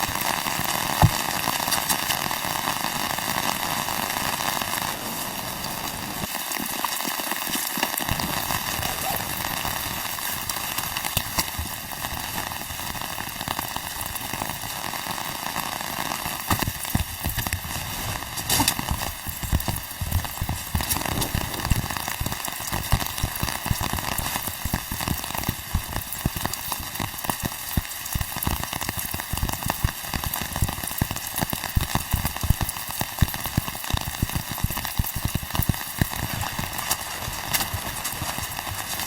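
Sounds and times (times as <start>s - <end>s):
rain falling: 0.0s - 39.0s.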